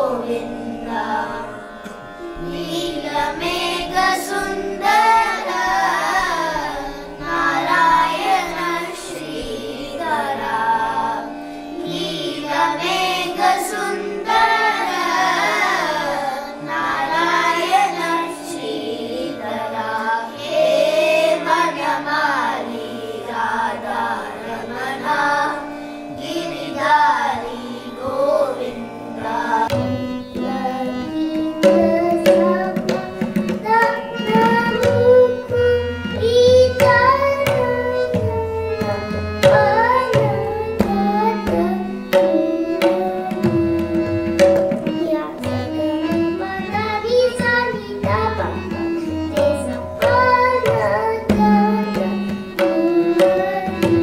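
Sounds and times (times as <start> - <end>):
children singing: 0.0 - 54.0.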